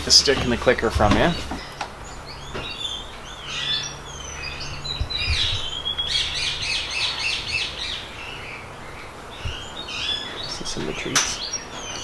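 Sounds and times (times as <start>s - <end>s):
birds chirping and whistling: 0.1s - 12.0s.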